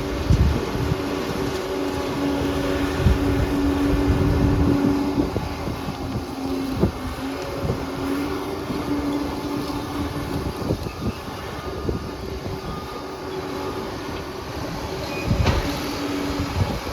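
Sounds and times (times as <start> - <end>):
bulldozer engine running: 0.0 - 16.9.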